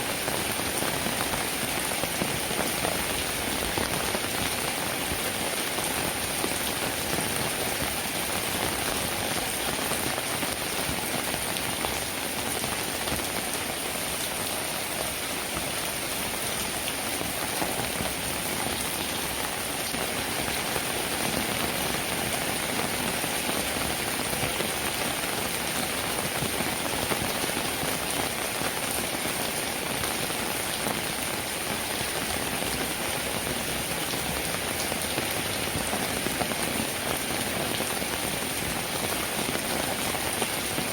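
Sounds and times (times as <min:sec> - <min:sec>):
rain on a roof: 0:00.0 - 0:40.9.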